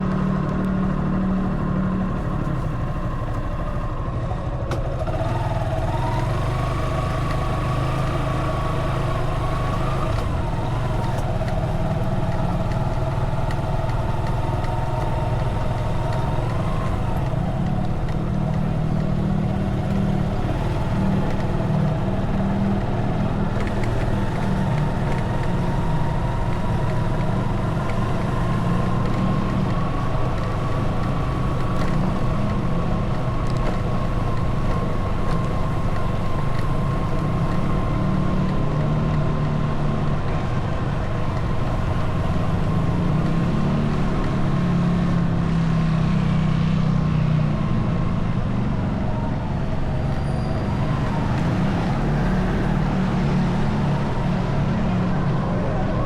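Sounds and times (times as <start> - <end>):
motorcycle engine droning: 0.0 - 56.0.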